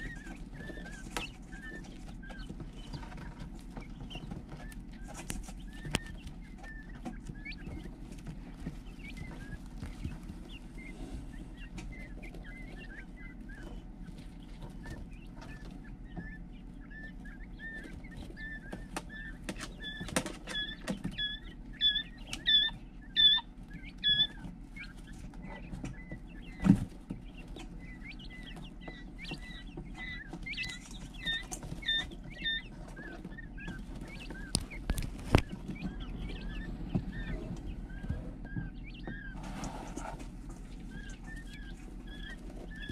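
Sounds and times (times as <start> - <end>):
quail chicks peeping: 0.0 - 42.9
steady low hum: 0.0 - 42.9.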